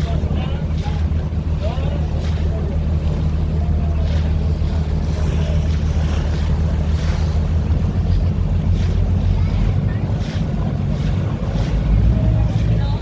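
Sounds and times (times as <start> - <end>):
boat engine humming: 0.0 - 13.0
water noise: 0.0 - 13.0
wind buffeting microphone: 0.0 - 13.0.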